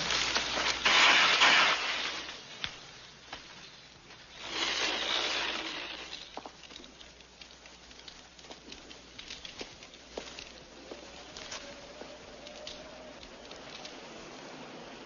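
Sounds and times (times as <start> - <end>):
fire hissing and crackling: 0.0 - 15.0.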